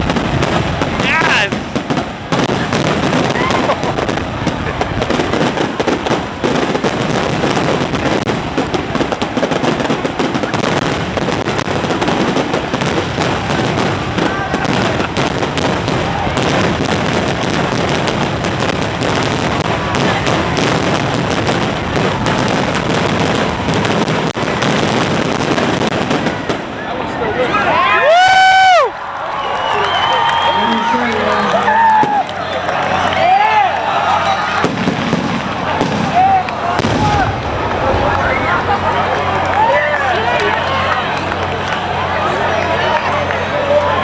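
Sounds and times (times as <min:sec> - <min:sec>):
fireworks bursting and crackling: 0:00.0 - 0:44.0.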